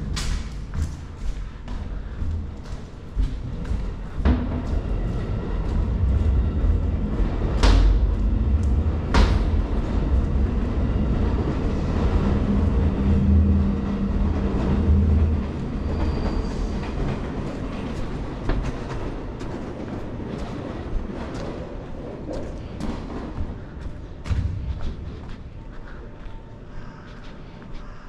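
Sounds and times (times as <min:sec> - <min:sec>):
sharp train clacks: 0:00.0 - 0:25.6
steady low hum: 0:00.0 - 0:28.0
train rumbling by: 0:00.0 - 0:28.0.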